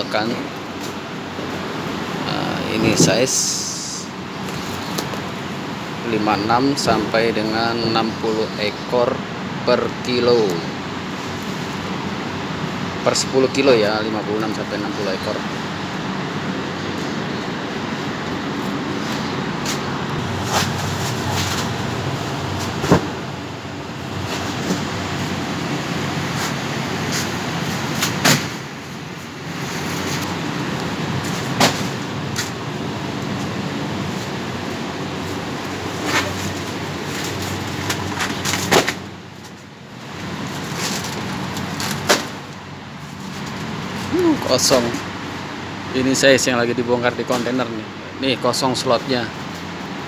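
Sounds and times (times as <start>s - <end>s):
refrigeration fans humming: 0.0s - 50.0s.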